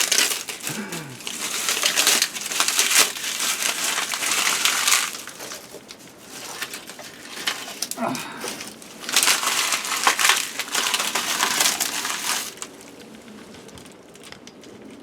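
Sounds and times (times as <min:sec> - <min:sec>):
dry bark crushed by hand: 0:00.0 - 0:15.0.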